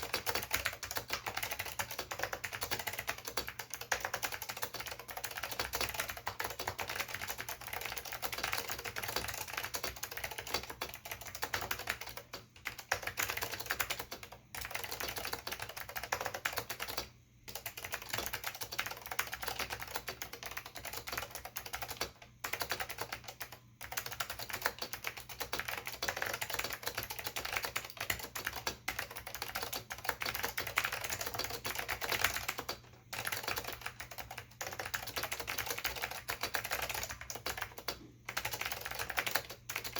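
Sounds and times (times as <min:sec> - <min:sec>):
fast typing on clicky keyboard: 0:00.0 - 0:39.9.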